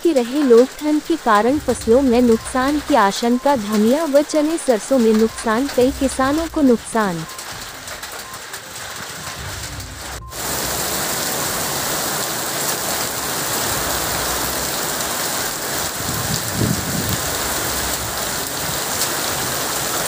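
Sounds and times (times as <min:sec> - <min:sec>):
heavy rain and hail on road: 0:01.1 - 0:20.0.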